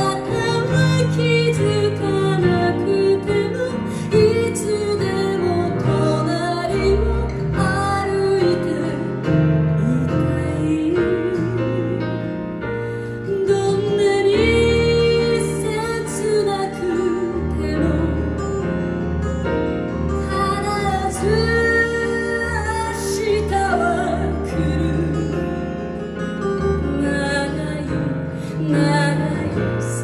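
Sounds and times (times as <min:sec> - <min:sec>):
woman singing with vibrato: 0:00.0 - 0:12.2, 0:13.2 - 0:18.5, 0:20.3 - 0:25.6, 0:26.8 - 0:30.0
acoustic band accompaniment: 0:00.0 - 0:30.0.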